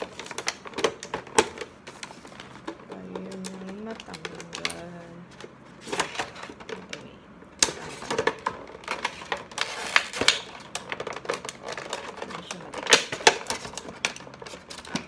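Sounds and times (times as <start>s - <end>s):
packaging crinkling and clicking: 0.0s - 15.0s.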